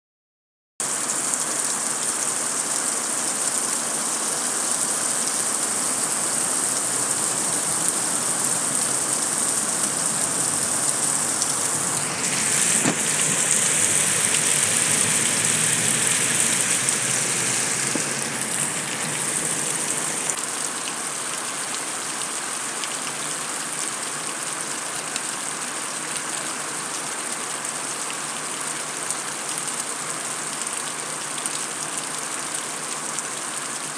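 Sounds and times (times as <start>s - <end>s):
heavy rain on concrete: 0.8s - 33.9s.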